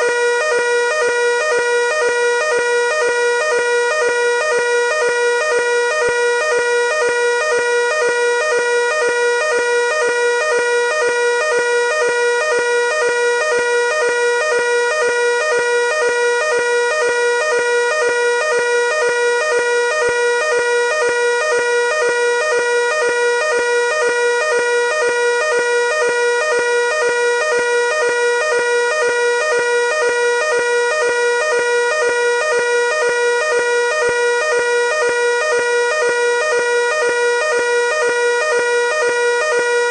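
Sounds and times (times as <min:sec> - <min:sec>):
fire alarm pulsing tone: 0:00.0 - 0:39.9.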